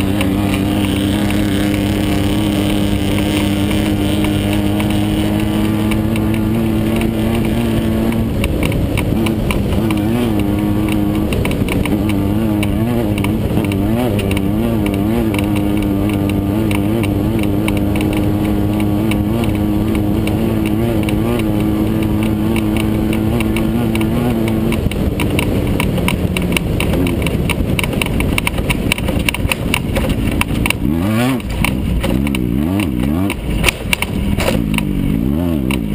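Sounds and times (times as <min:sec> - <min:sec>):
chassis rattling and knocking: 0:00.0 - 0:34.9
race car engine revving: 0:00.0 - 0:35.9.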